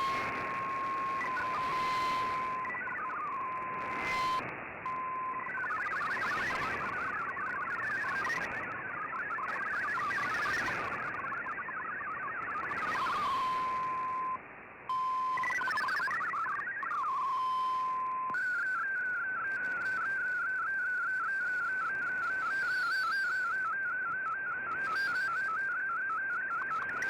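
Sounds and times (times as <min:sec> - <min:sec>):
radio data signal tones: 0:00.0 - 0:27.0.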